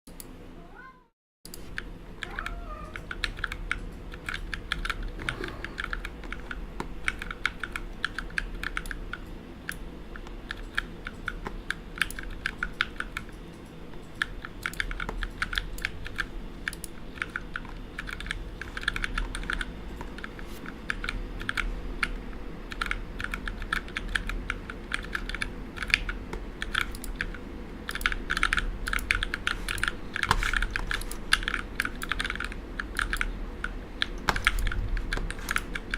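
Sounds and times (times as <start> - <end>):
mechanical keyboard typing: 1.8 - 35.9.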